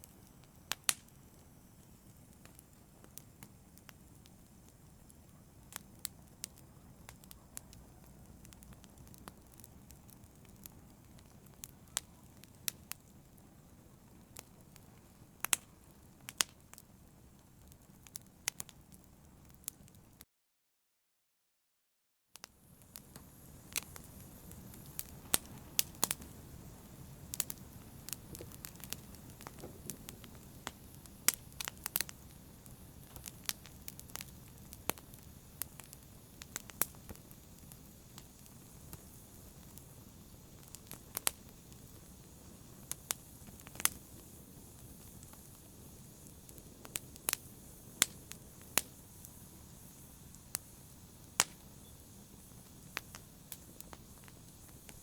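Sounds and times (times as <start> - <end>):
wood fire crackling: 0.0 - 20.2, 22.4 - 55.0.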